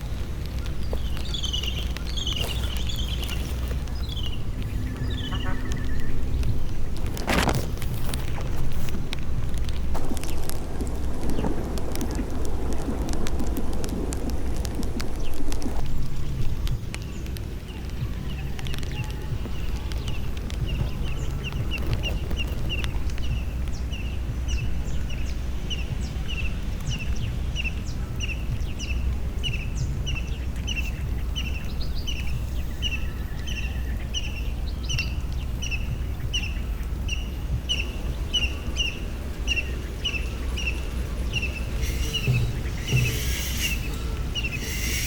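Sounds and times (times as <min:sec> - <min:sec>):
bird chirping: 0:00.0 - 0:08.4, 0:15.9 - 0:45.0
steady low rumble: 0:00.0 - 0:45.0.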